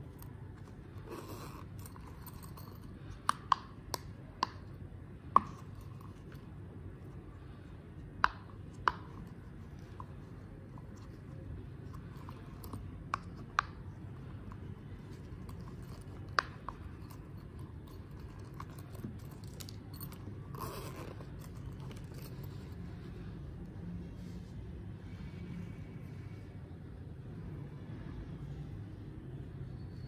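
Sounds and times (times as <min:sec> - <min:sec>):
low background noise: 0:00.0 - 0:30.0.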